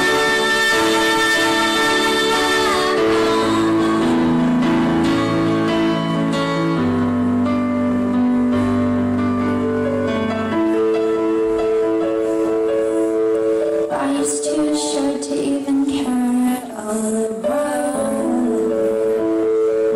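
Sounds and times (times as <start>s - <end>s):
piano and guitar chords: 0.0s - 19.9s.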